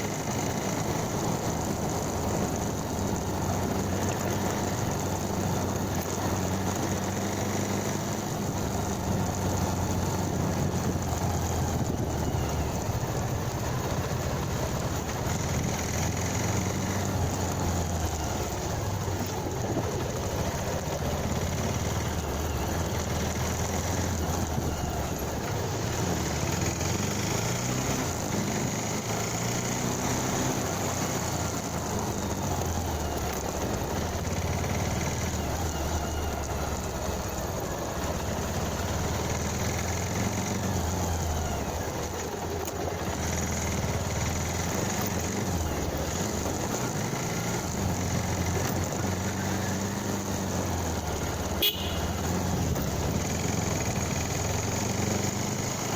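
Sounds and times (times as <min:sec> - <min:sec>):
motorcycle engine running: 0:00.0 - 0:55.9
road noise: 0:00.0 - 0:55.9.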